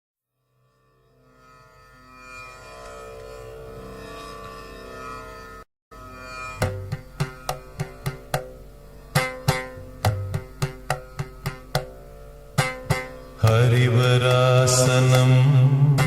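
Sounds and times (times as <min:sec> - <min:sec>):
plucked string notes: 0:02.6 - 0:16.0.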